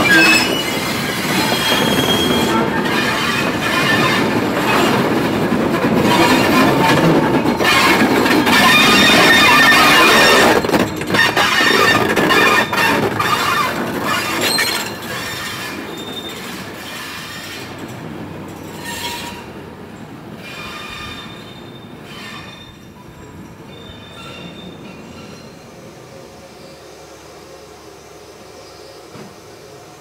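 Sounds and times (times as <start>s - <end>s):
train wheels squealing on rails: 0.0s - 30.0s.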